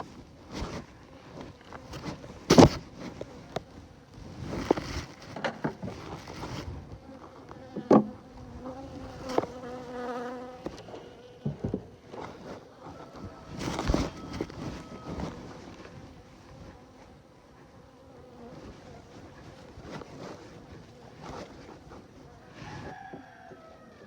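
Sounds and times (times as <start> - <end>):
honeybees buzzing: 0.0 - 23.5
knocks and rustling from hive: 0.0 - 23.6.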